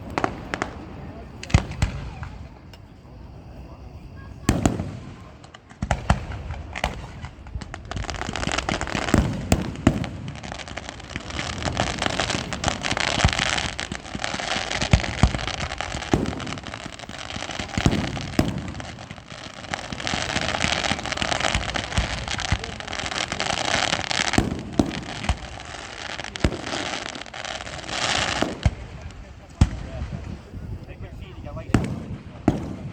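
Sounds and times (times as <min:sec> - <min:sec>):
dense fireworks crackling: 0:00.0 - 0:32.9
fireworks booms and bangs: 0:00.0 - 0:32.9.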